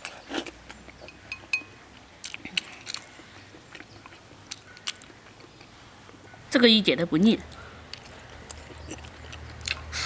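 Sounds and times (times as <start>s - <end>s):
person chewing with lip smacks: 0.0s - 6.3s, 7.4s - 10.0s.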